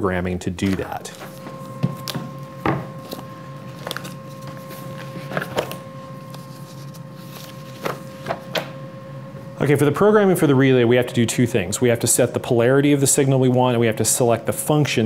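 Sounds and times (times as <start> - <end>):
electrical whine: 0.0 - 15.0.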